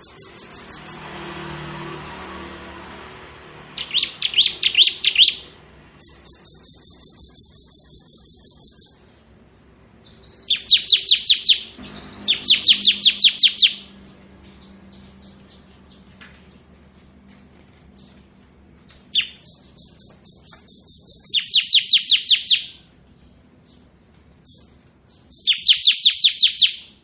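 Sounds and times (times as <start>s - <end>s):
bird singing rapid trills: 0.0s - 1.2s, 3.7s - 27.0s.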